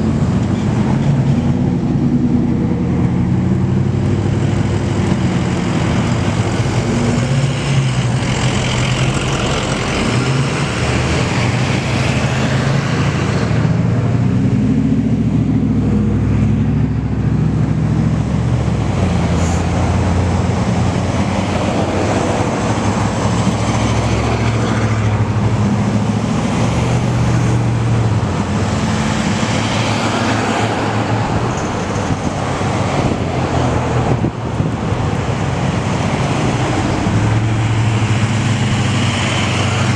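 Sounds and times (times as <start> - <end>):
heavy diesel trucks running: 0.0 - 39.9
road noise: 0.0 - 39.9.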